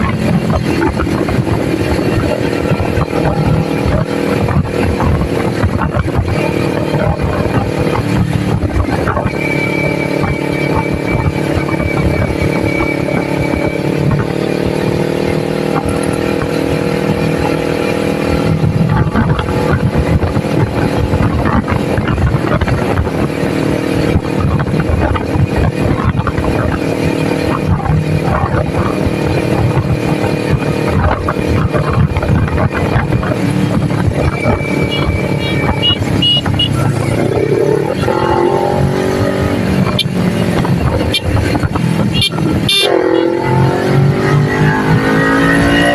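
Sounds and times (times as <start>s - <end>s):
motorcycle engine at speed: 0.0s - 45.9s.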